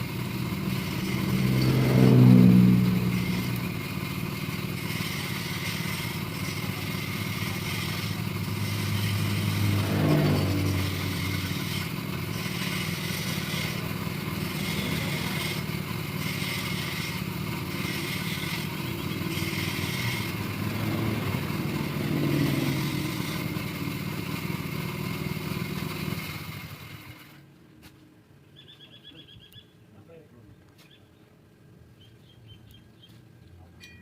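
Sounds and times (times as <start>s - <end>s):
motorcycle engine running: 0.0s - 27.5s.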